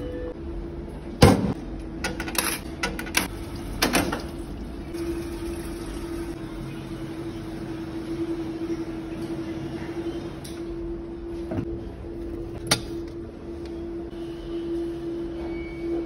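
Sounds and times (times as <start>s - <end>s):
laundry machines humming: 0.0s - 16.0s.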